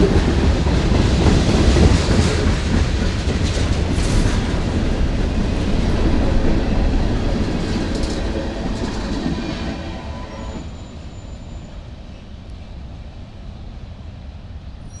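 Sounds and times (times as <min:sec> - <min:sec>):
freight train cars rolling past: 0:00.0 - 0:15.0.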